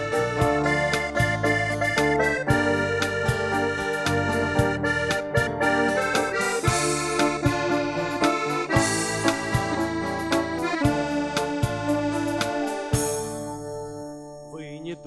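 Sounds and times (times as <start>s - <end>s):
steady beat: 0.0s - 13.7s
sustained keyboard chords: 0.0s - 15.0s.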